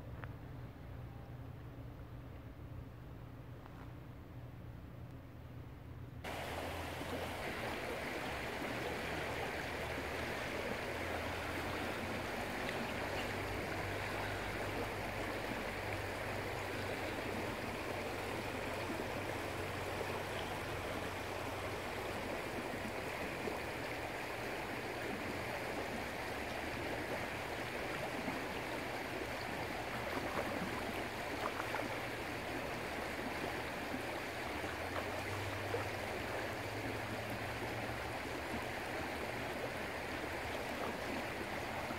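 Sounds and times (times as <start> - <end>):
creek water rushing over rocks: 6.3 - 41.9.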